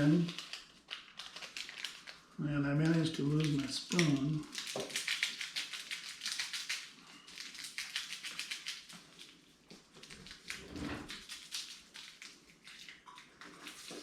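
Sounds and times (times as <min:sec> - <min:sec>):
small objects clicking and rustling: 0:00.0 - 0:02.2, 0:02.8 - 0:14.0.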